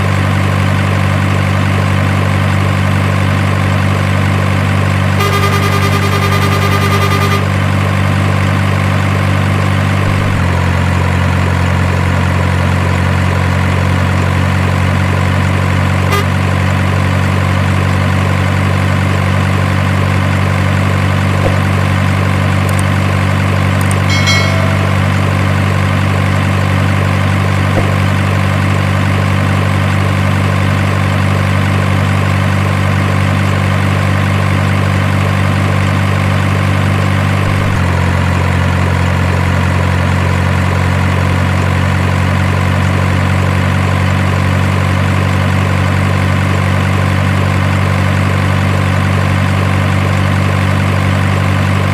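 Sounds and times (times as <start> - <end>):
truck engine idling: 0.0 - 51.9.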